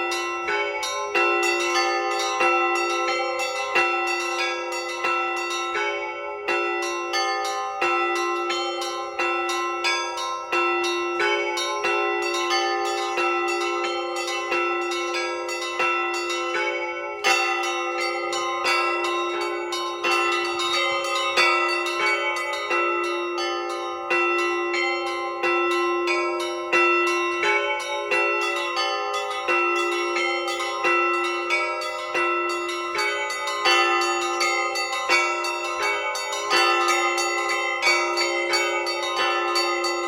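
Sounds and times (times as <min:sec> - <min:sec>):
high church bells pealing: 0:00.0 - 0:40.0
low church bell: 0:00.0 - 0:40.0.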